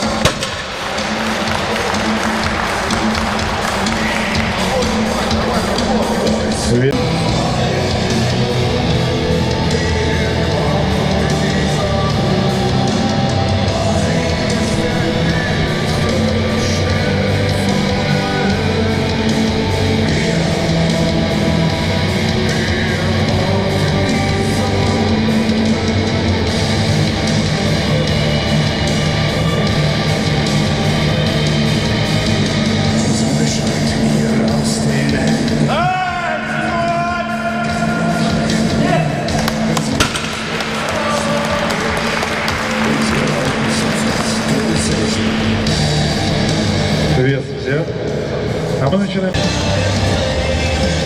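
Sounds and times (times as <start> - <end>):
heavy metal music: 0.0 - 51.0.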